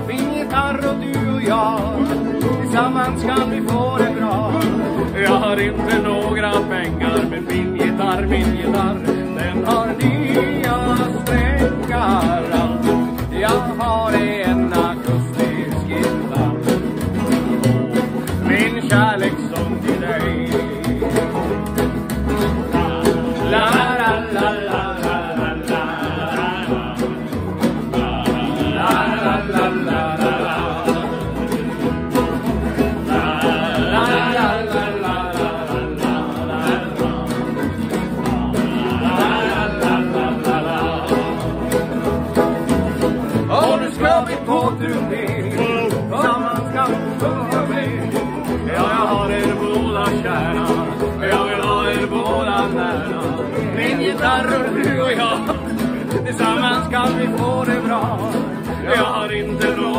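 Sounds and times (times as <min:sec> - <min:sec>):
acoustic country band playing: 0:00.0 - 0:59.9
voices singing: 0:00.0 - 0:59.9.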